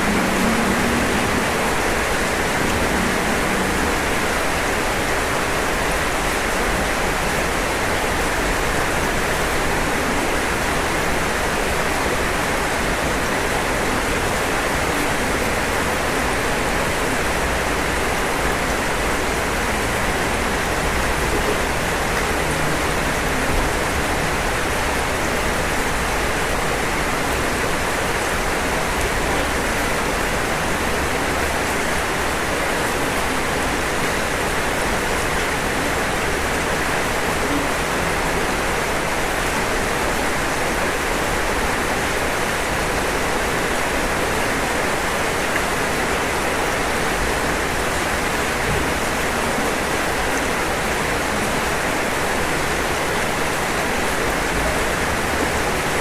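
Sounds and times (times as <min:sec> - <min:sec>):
rain falling on roof: 0:00.0 - 0:56.0.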